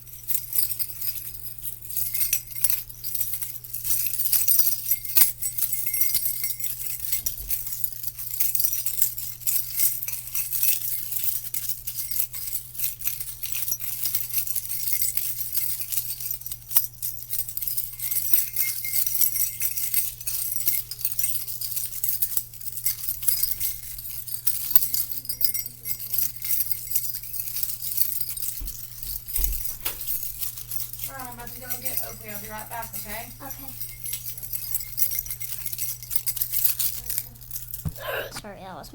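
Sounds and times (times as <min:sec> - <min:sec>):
tiny metal chimes shaking: 0:00.0 - 0:38.8.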